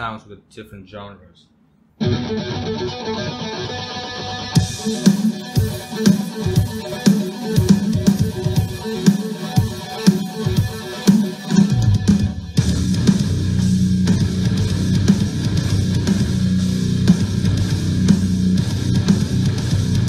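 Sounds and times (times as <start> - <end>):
rock music from a speaker: 2.0 - 20.0.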